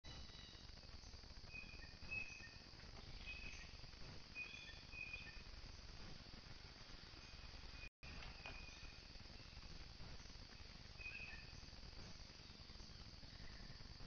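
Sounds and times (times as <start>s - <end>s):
faint bird chirps: 0.1s - 5.9s, 7.1s - 14.0s
background hiss: 0.1s - 14.0s.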